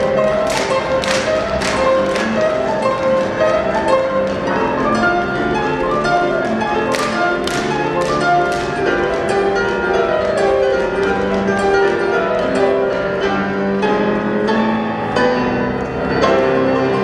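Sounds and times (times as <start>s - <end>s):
piano-like melodic notes: 0.0s - 17.0s.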